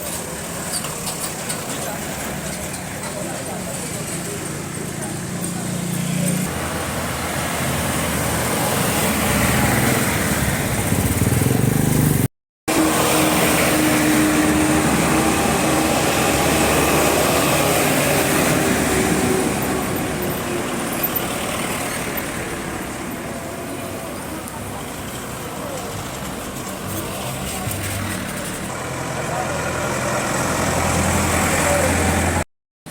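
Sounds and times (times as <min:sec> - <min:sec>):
vehicle engine passing: 0:03.2 - 0:32.4.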